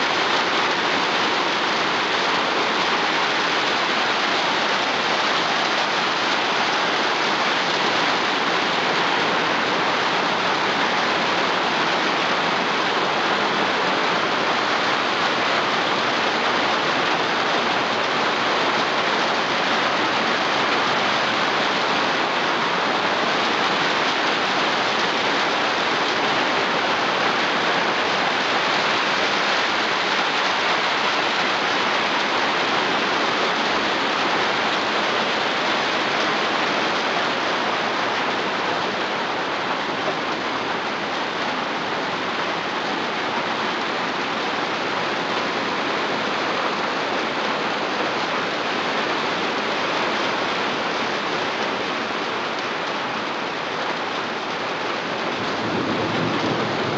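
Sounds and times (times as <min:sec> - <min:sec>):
rain on a tin roof: 0:00.0 - 0:56.9.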